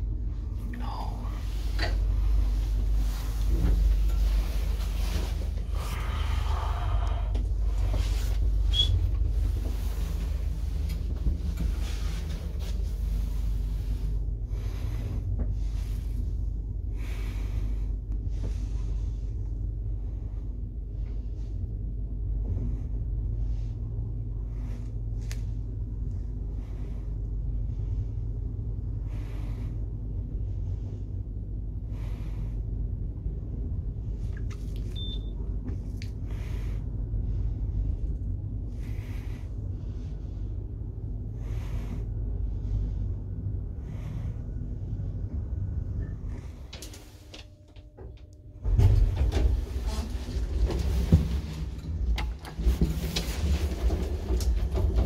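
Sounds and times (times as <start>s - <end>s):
elevator car rumbling: 0.0s - 55.0s.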